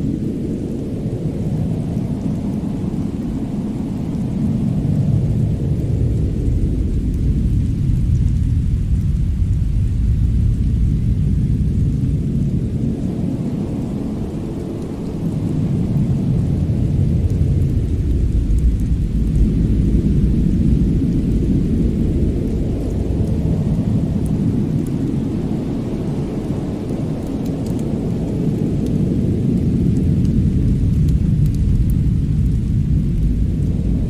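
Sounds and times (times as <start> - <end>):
faint crackles: 0.1 - 34.0.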